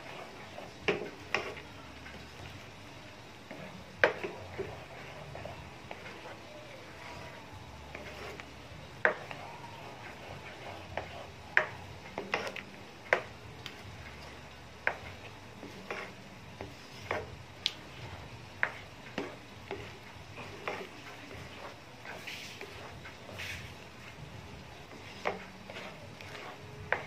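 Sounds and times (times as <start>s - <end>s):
spatula scraping and knocking pan: 0.0s - 2.6s, 3.5s - 27.0s.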